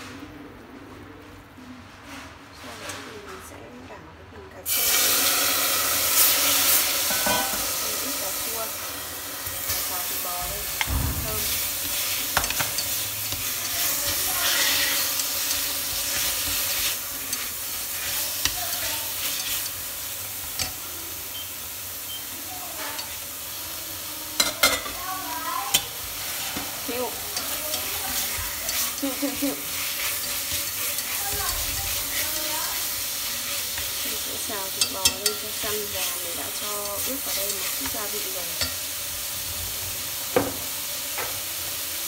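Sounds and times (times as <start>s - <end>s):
meat sizzling in hot oil: 4.7s - 42.0s.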